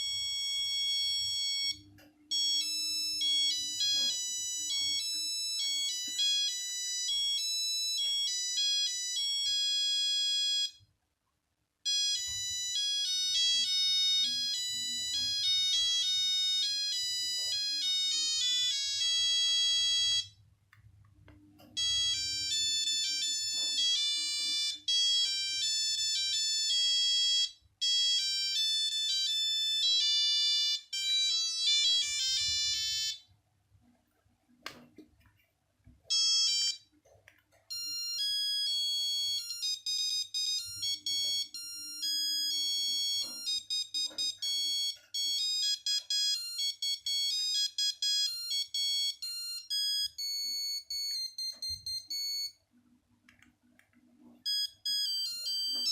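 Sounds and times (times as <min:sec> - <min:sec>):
phone beeping ringtone: 0:00.0 - 0:10.8, 0:11.9 - 0:20.4, 0:21.8 - 0:33.3, 0:36.1 - 0:37.0, 0:37.7 - 0:52.6, 0:54.3 - 0:55.9.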